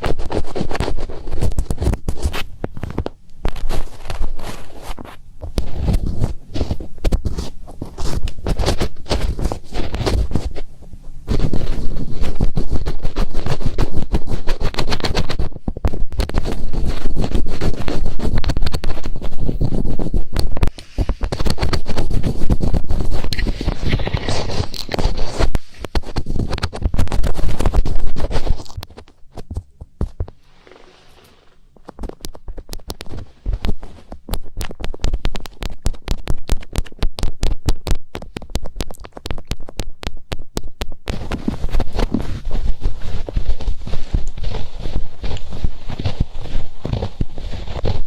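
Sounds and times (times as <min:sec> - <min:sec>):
fingertips scratching microphone: 0:00.0 - 0:48.0.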